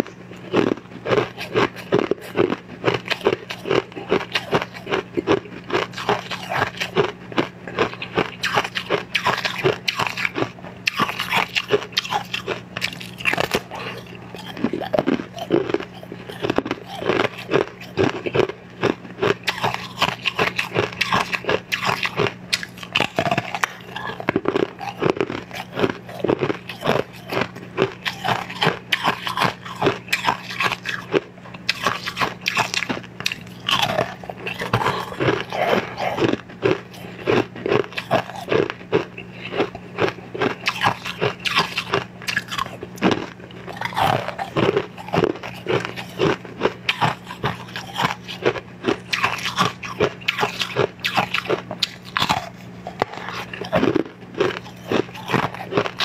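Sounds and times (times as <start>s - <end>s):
chewing crunchy candy: 0.0s - 56.0s.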